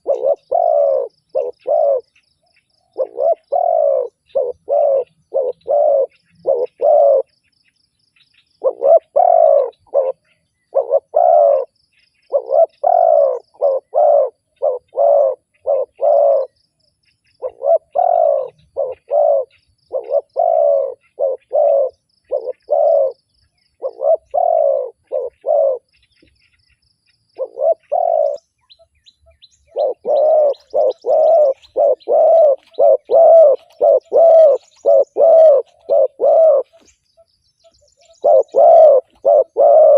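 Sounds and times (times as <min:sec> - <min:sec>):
doves cooing: 0:00.0 - 0:02.2, 0:02.9 - 0:07.3, 0:08.6 - 0:16.6, 0:17.4 - 0:23.2, 0:23.8 - 0:25.9, 0:27.4 - 0:28.4, 0:29.7 - 0:37.0, 0:37.7 - 0:39.9
small birds chirping: 0:00.0 - 0:39.9.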